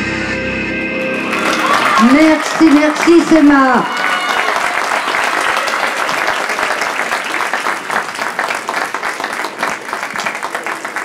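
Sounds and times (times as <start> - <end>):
audience applauding: 1.0 - 11.0.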